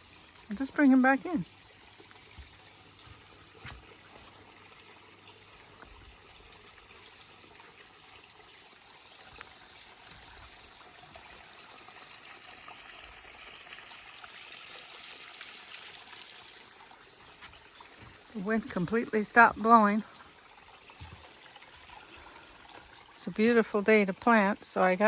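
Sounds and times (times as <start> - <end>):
small stream trickling: 0.0 - 25.0.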